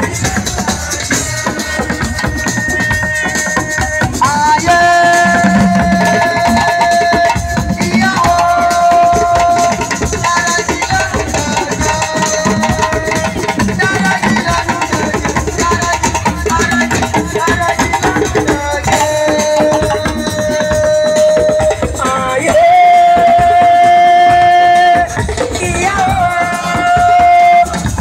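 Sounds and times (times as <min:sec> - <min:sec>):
fast hand drum percussion: 0:00.0 - 0:28.0.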